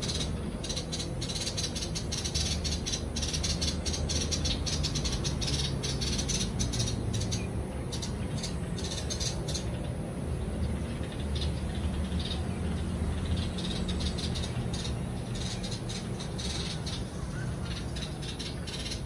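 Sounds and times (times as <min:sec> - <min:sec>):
birds chattering calls: 0:00.0 - 0:19.0.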